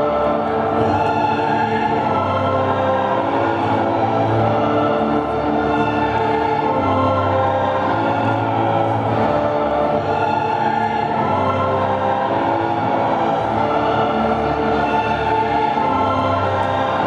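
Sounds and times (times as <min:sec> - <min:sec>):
choir-like music with drone: 0:00.0 - 0:17.0.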